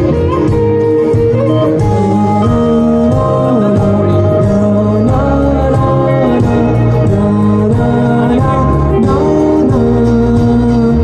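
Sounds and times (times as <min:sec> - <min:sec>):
live rock band: 0:00.0 - 0:11.0
person singing: 0:00.0 - 0:11.0.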